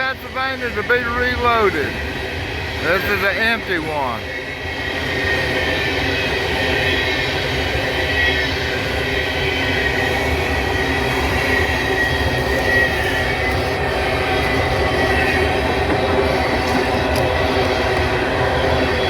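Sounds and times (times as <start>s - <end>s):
train wheels rumbling on rails: 0.0s - 19.0s
high wheel squeal: 2.8s - 19.0s.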